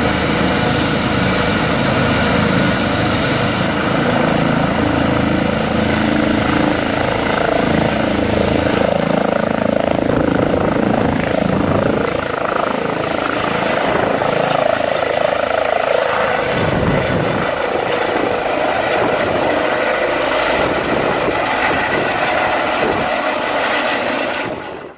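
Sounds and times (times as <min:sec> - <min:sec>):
helicopter turbine and rotor noise: 0:00.0 - 0:24.9.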